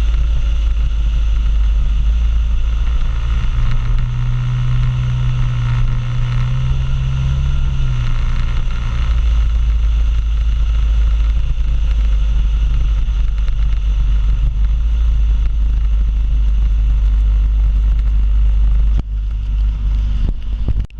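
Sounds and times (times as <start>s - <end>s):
scooter engine hum: 0.0s - 20.9s
wind rumble on microphone: 0.0s - 20.9s.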